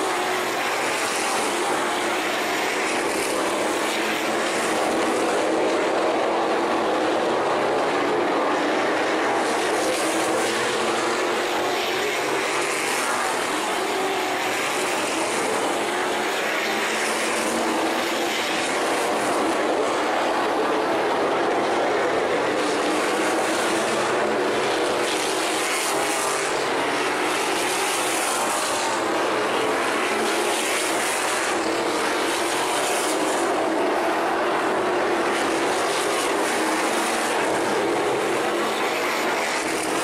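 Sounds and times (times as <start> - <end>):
race car engines roaring: 0.0 - 40.0.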